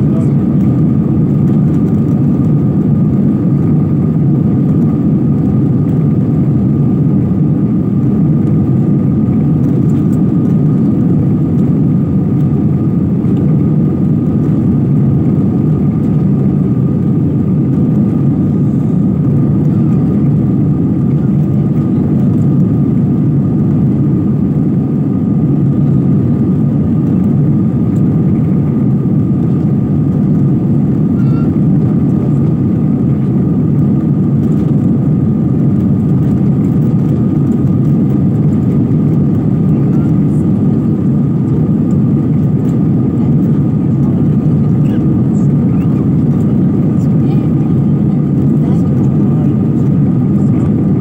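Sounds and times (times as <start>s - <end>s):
jet engine cabin rumble: 0.0s - 51.0s.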